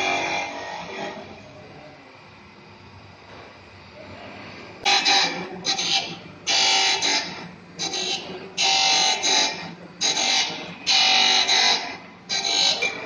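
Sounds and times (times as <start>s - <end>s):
machine running: 0.0s - 1.8s, 3.2s - 13.0s.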